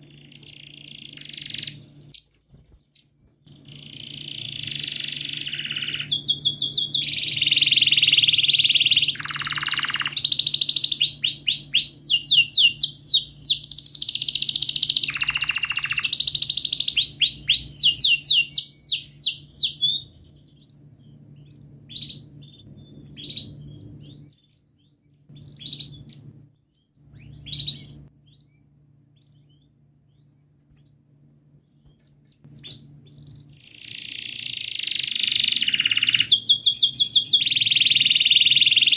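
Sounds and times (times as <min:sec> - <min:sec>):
canary singing trills: 0:00.0 - 0:38.9
faint low hum: 0:00.0 - 0:38.9.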